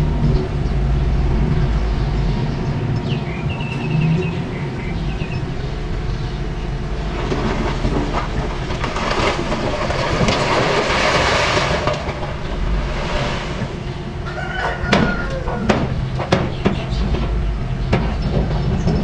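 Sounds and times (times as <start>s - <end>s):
diesel engine running: 0.0s - 19.0s
steel tracks clanking: 0.0s - 19.0s.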